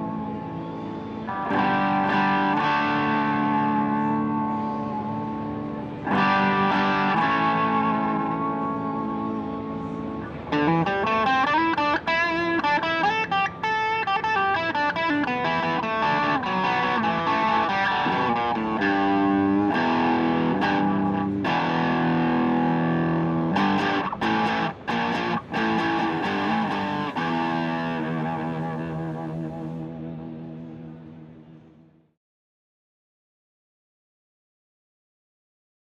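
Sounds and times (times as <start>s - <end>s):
overdriven electric guitar: 0.0s - 31.9s.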